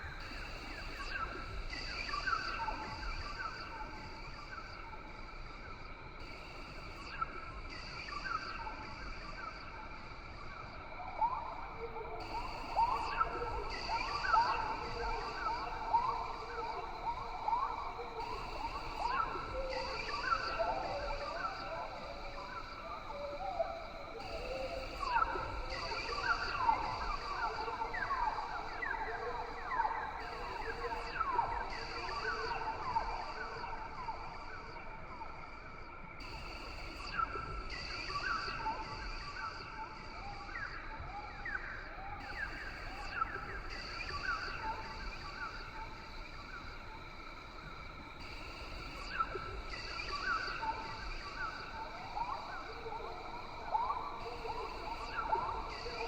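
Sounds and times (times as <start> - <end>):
high insect drone: 10.3 - 56.0.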